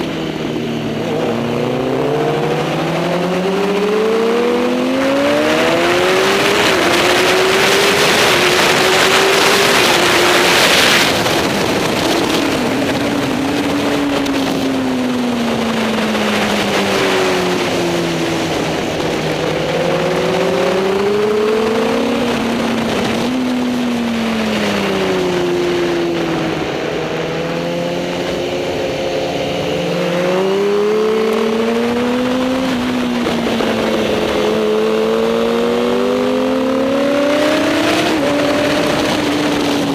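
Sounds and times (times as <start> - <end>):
motorcycle engine racing: 0.0 - 39.9.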